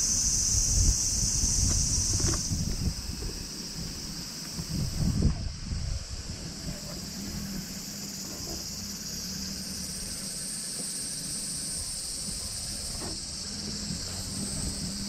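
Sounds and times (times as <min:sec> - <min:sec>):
insects singing in grass: 0:00.0 - 0:15.0.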